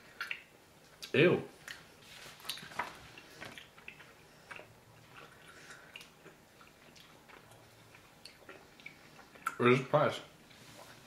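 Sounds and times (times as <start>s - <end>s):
gum chewing clicks and squishes: 0.1s - 9.7s.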